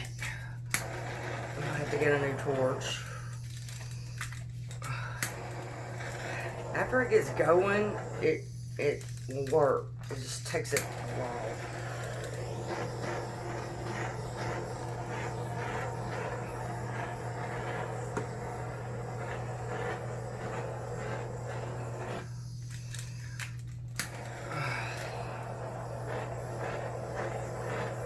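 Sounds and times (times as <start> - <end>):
butane torch flame hissing: 0.0 - 28.0
constant low hum: 0.0 - 28.0.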